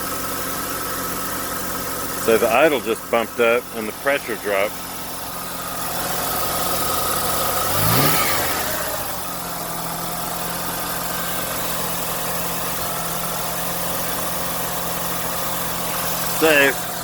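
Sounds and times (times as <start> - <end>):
rotary engine idling: 0.0 - 17.0.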